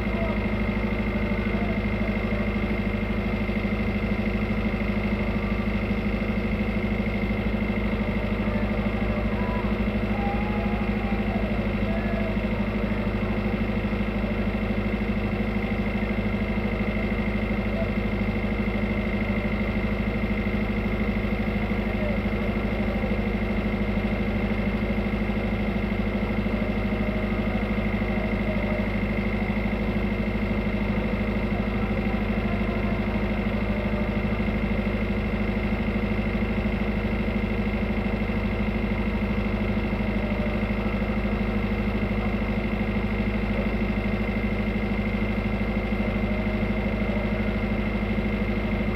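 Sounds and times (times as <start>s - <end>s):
diesel engine hum: 0.0s - 48.9s.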